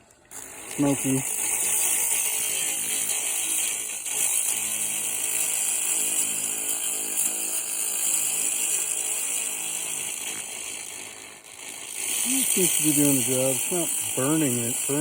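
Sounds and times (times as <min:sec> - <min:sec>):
laser hissing on metal: 0:00.3 - 0:15.0.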